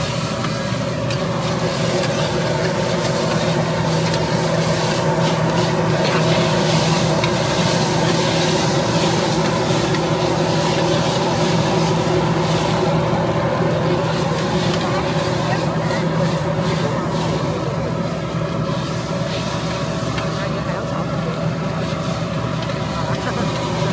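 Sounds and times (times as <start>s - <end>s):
food sizzling: 0.0s - 23.9s
steady machine hum: 0.0s - 23.9s.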